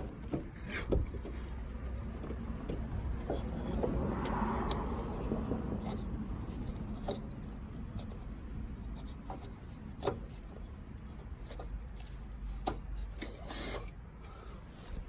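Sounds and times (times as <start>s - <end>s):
light knocks of parts: 0.0s - 15.0s.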